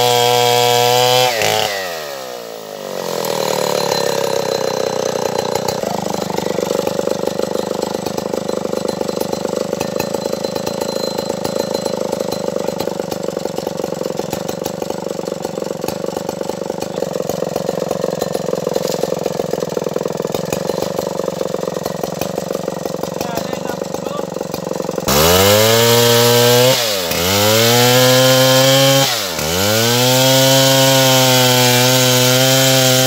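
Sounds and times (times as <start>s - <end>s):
chainsaw engine running: 0.0s - 33.0s.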